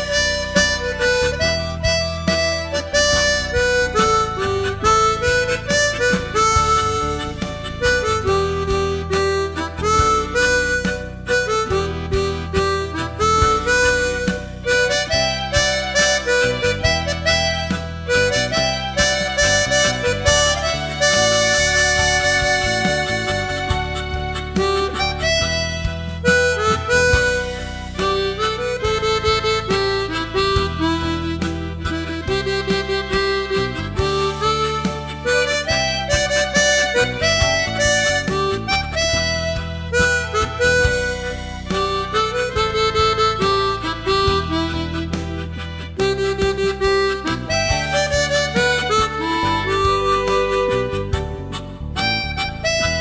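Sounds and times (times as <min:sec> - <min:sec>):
harmonica ensemble playing: 0:00.0 - 0:53.0.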